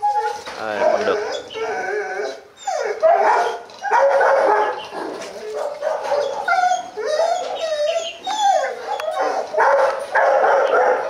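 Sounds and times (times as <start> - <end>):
dogs whining and howling: 0.0 - 11.0.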